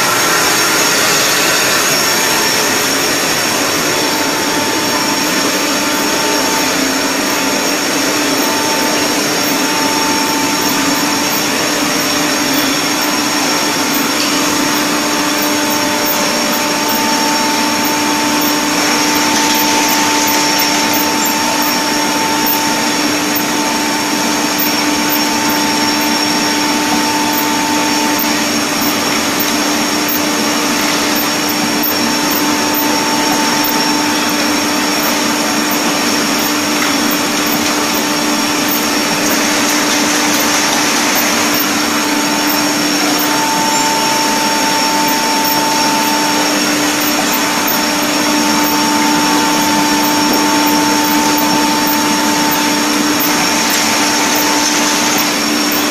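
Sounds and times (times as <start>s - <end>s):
factory machinery din: 0.0s - 55.9s
machine whine: 0.0s - 55.9s.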